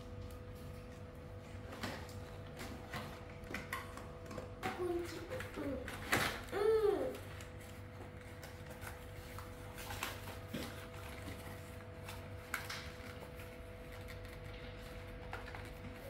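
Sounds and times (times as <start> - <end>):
cardboard and plastic packaging handled: 0.5 - 16.0.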